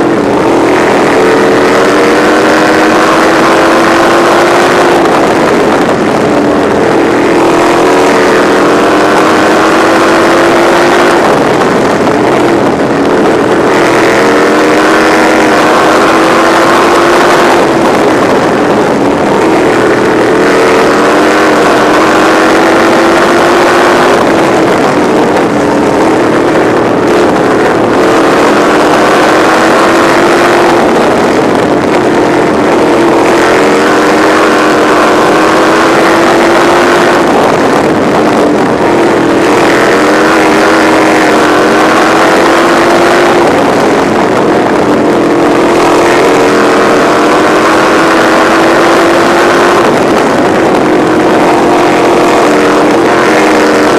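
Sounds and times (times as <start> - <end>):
race car engine under hard throttle: 0.0 - 53.9
wind rushing: 0.0 - 53.9.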